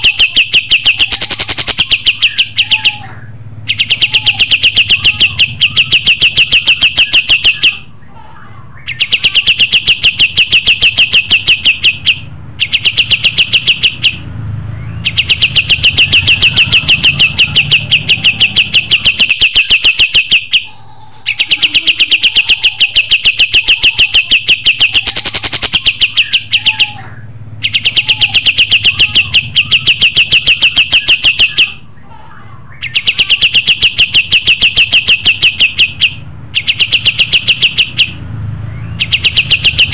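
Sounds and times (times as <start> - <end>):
songbird rapid high chirps: 0.0 - 3.0, 3.7 - 7.9, 8.8 - 20.7, 21.3 - 31.8, 32.8 - 39.9.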